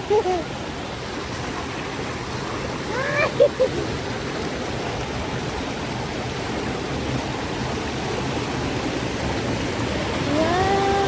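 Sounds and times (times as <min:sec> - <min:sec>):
waterfall and river rushing: 0:00.0 - 0:11.0.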